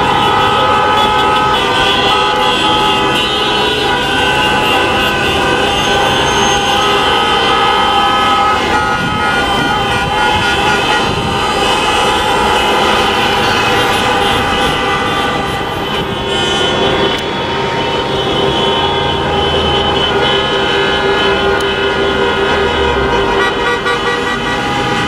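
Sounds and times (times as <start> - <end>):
car horns honking: 0.0 - 25.0
idling traffic rumble: 0.0 - 25.0.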